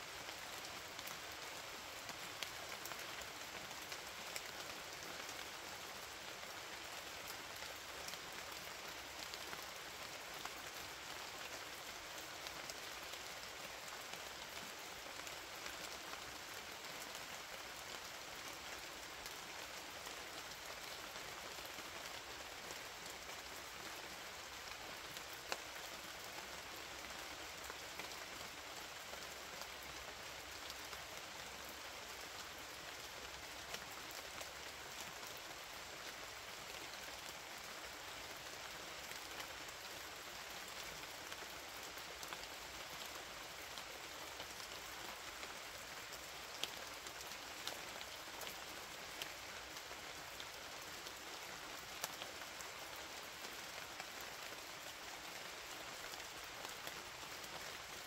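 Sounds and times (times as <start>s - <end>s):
rain hissing on a surface: 0.0s - 58.0s.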